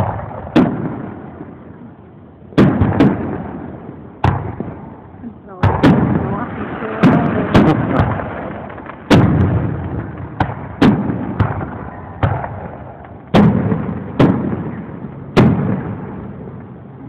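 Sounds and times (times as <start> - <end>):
fireworks booming with echo: 0.0 - 17.0.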